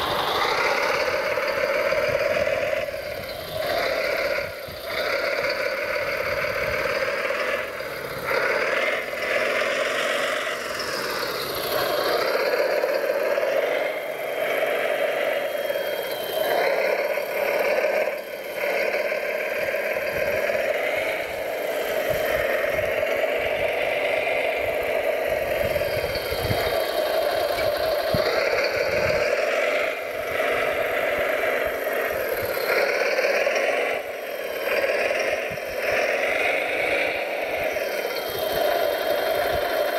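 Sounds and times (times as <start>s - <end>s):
electric motors whining: 0.0s - 39.9s
gravel and stones rattling: 0.0s - 39.9s.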